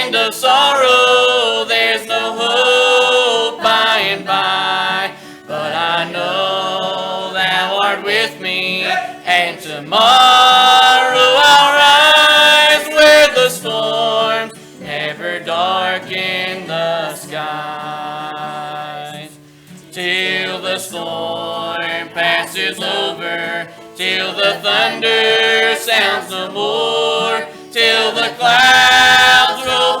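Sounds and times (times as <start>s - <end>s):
vocal group singing a hymn: 0.0s - 30.0s.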